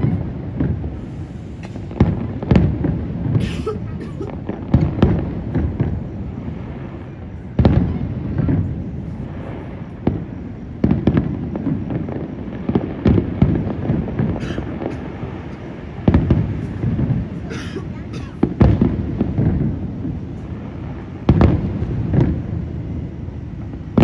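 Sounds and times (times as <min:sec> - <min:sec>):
crackling firework burst: 0:00.0 - 0:24.0.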